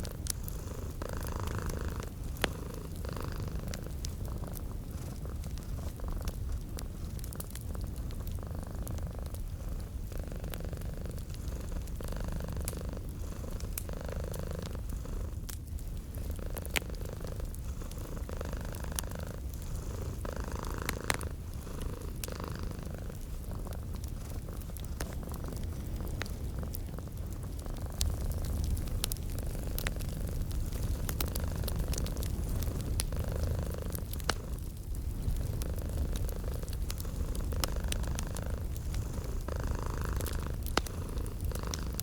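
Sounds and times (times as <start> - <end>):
cat purring: 0.0 - 42.0
fireplace crackling and popping: 0.0 - 42.0.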